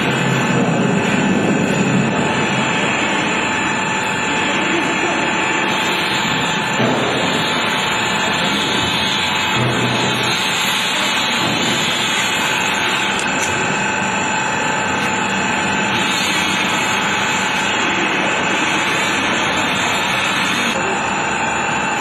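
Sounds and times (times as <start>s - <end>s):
factory roar: 0.0s - 22.0s.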